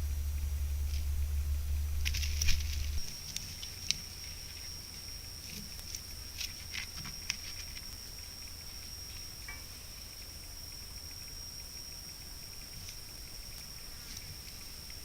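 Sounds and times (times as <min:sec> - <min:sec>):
light ticks and rustles: 0:00.0 - 0:15.0
low hum: 0:00.0 - 0:15.0.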